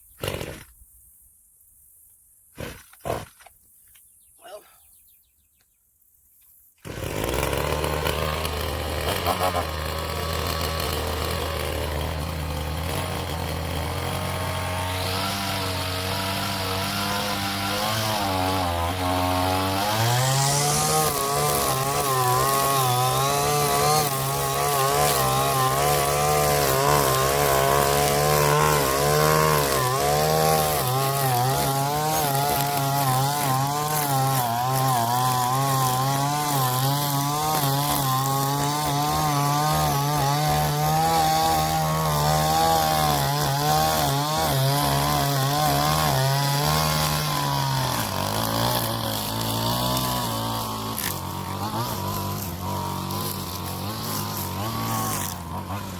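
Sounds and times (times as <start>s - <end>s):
small gas engine revving: 0.2s - 0.8s, 6.8s - 55.9s.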